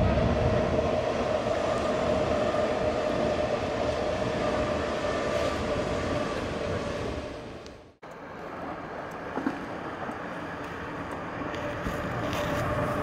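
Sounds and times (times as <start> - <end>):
electric train hum: 0.0 - 13.0
wheel-on-rail rumble: 0.0 - 13.0.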